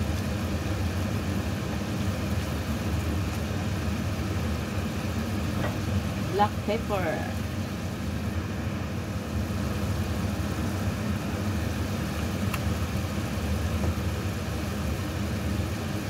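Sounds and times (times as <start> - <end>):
sauce simmering in a pan: 0.0 - 6.7, 7.3 - 16.0.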